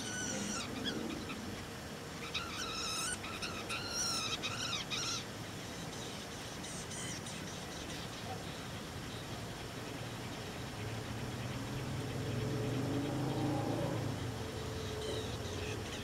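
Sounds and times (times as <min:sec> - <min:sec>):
nestlings begging high calls: 0:00.0 - 0:16.0.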